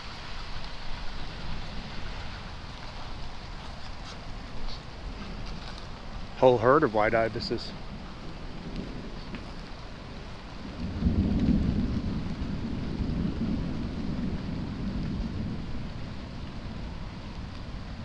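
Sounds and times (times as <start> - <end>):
rain hissing: 0.0 - 18.0
thunder rumbling: 0.0 - 18.0.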